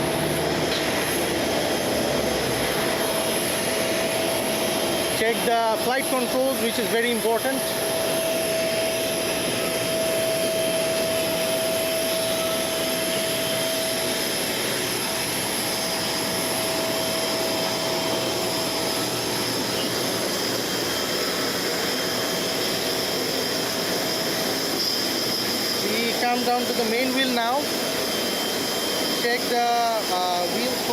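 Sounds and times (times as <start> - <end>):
mid-pitched hum: 0.0 - 29.2
jet turbine whine: 0.0 - 30.9.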